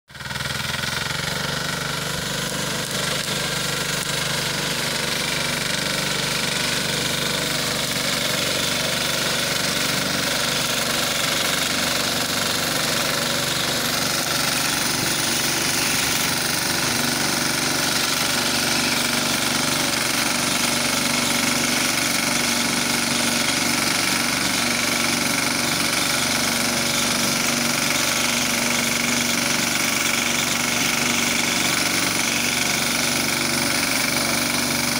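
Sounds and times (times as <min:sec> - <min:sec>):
engine running under load: 0:00.1 - 0:34.9
reciprocating cutter bar: 0:00.2 - 0:34.9.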